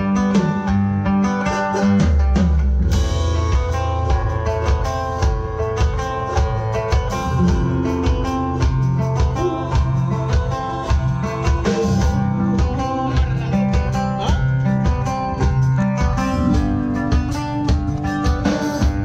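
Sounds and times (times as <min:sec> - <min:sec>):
drum kit beat: 0:00.0 - 0:19.0
instrumental band music: 0:00.0 - 0:19.0.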